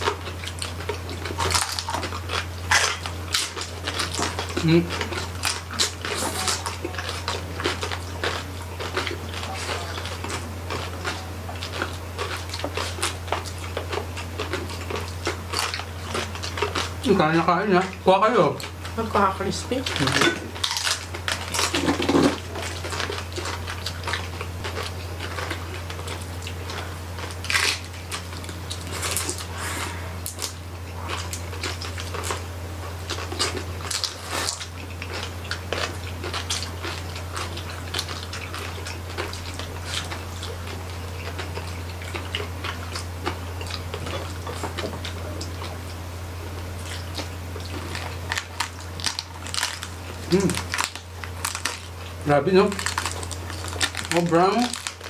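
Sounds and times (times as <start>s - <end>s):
crunching and chewing crispy skin: 0.0s - 55.0s
low steady hum: 0.0s - 55.0s.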